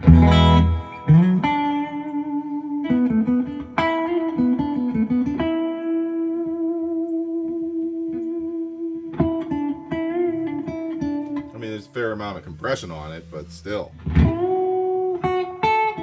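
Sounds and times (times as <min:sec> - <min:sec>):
overdriven electric guitar: 0:00.0 - 0:11.6, 0:13.9 - 0:16.0.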